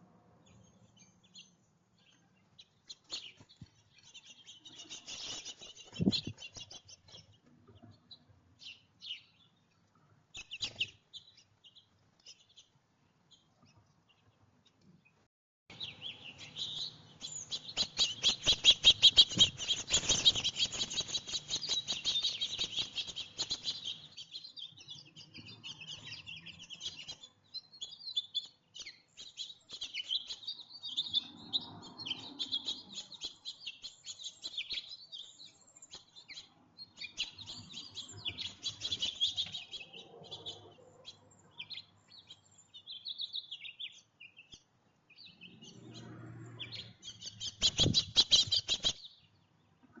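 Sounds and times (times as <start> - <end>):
small songbirds chirping: 0.3 - 50.0.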